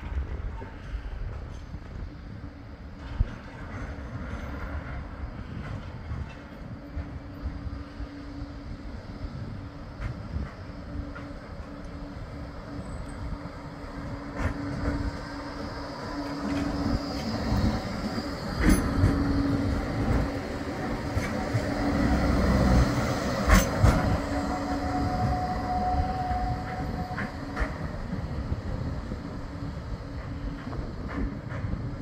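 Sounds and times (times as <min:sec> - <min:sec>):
tram wheels rumbling on rails: 0:00.0 - 0:32.0.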